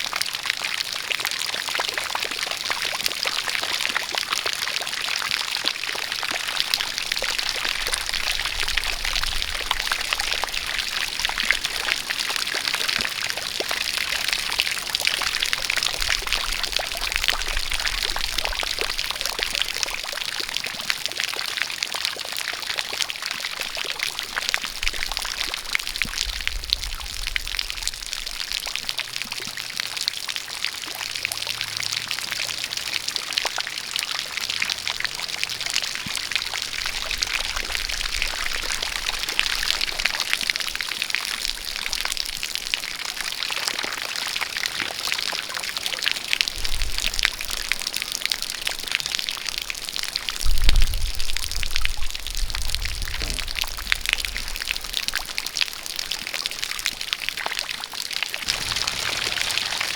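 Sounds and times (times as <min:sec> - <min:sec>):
rain falling: 0:00.0 - 0:59.9
stream of water pouring: 0:00.0 - 0:59.9.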